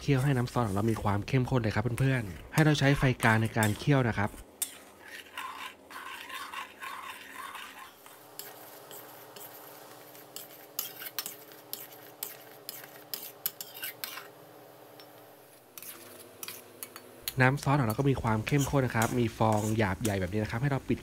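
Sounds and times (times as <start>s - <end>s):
metal spatula scraping a wok: 0.0s - 14.4s, 15.7s - 20.6s.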